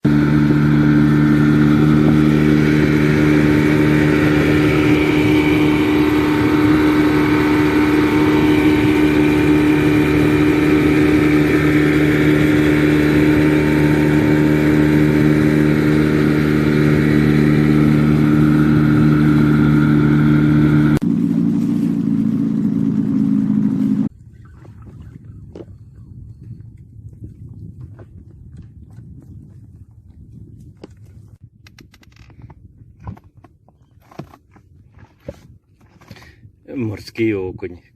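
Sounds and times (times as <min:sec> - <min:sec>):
boat motor running: 0:00.0 - 0:31.4.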